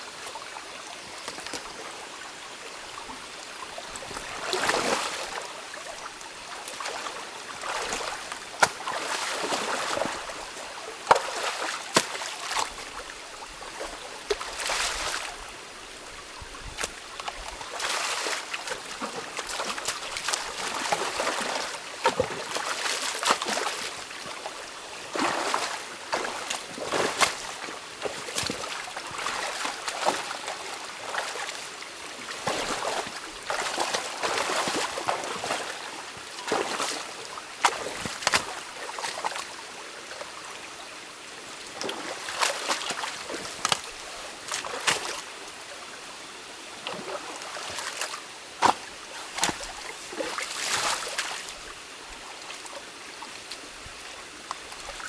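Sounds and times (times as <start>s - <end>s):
stream water trickling: 0.0s - 55.0s
splashes and sloshes: 0.1s - 55.0s.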